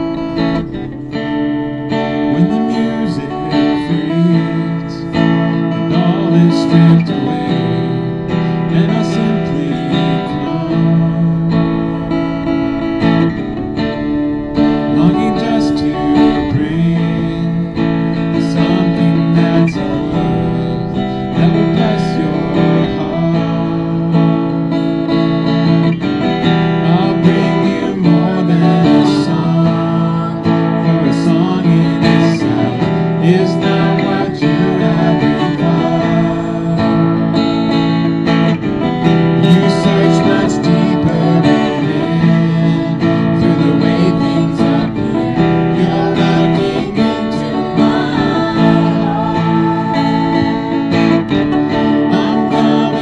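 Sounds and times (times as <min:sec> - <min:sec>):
strummed acoustic guitar chords: 0:00.0 - 0:53.0.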